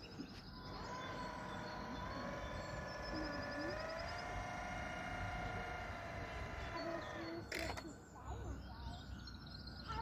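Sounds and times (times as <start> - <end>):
model boat electric motor whine: 0.0 - 8.1.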